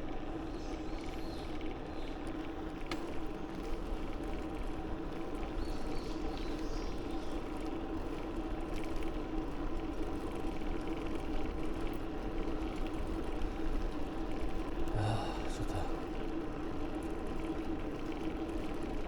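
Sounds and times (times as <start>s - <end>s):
bicycle tyres and drivetrain hum: 0.0s - 19.0s.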